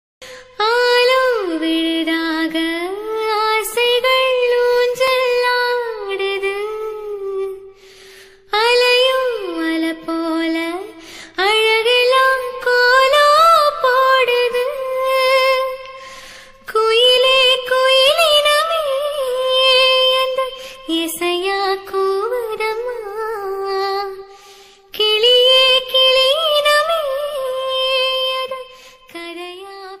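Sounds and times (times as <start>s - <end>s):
woman singing a slow love song: 0.2s - 30.0s.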